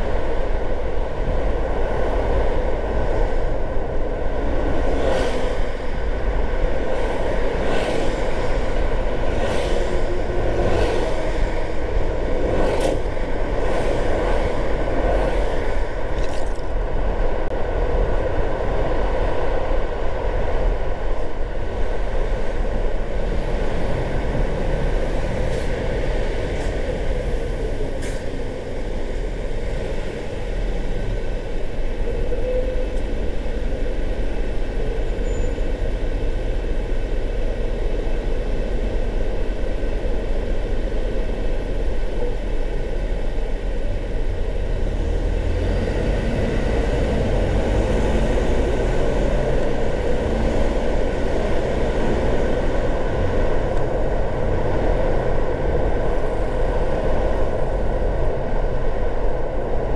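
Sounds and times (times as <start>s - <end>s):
car tyre and engine noise: 0.0s - 59.9s.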